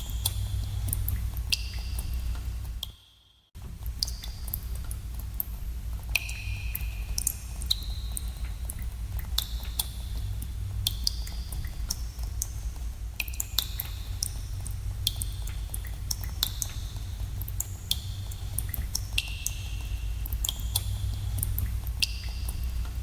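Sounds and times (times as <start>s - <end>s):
steady low rumble: 0.0s - 2.8s, 3.6s - 23.0s
water drops plinking in cave: 0.0s - 3.1s, 3.9s - 23.0s.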